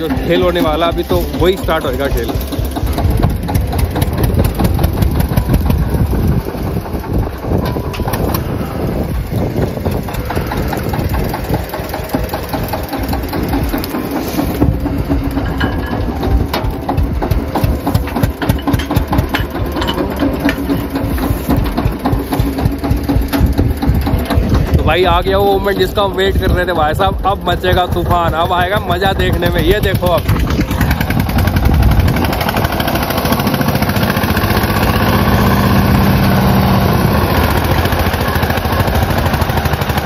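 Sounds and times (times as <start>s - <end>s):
tractor diesel engine idling: 0.0s - 40.0s.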